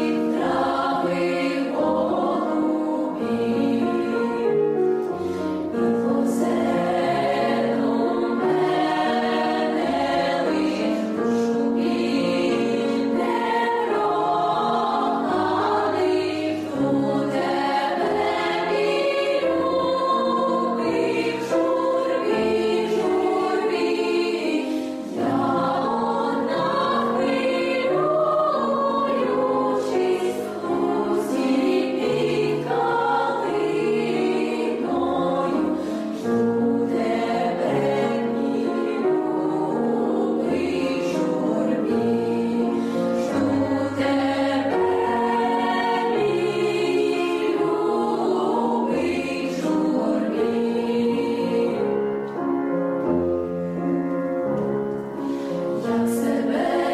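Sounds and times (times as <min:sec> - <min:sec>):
girls' choir singing: 0:00.0 - 0:52.2, 0:54.4 - 0:56.9.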